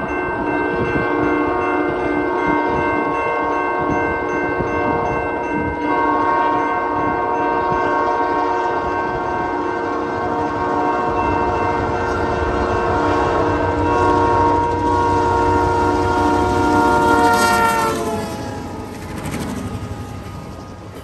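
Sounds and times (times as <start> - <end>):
train wheel rumble: 0.0 - 21.0
locomotive horn blasts: 0.8 - 18.9.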